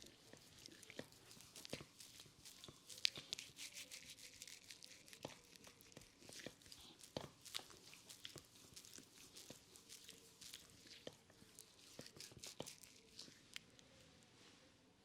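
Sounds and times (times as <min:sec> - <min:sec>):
fingers scratching through hair: 0:00.0 - 0:13.8.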